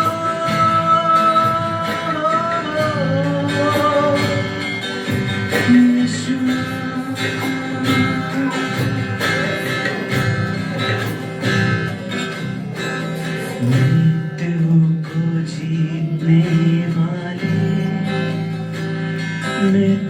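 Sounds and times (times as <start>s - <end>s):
strummed acoustic guitar: 0.0s - 20.0s
worship band playing: 0.0s - 20.0s.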